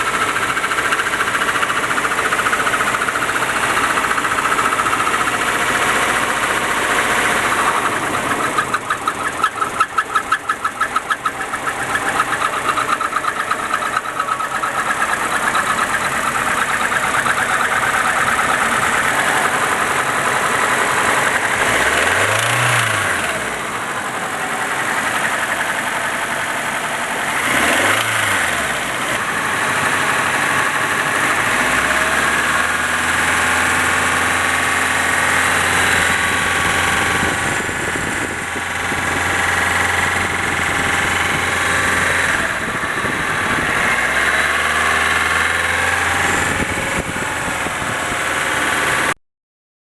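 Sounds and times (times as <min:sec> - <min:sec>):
car engine idling with knock: 0:00.0 - 0:49.2
engine revving: 0:00.0 - 0:49.2.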